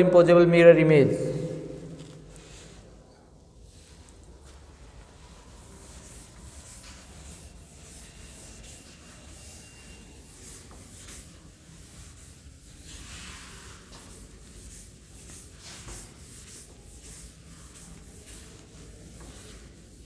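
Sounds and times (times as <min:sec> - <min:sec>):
duster rubbing on chalkboard: 0:03.7 - 0:20.0.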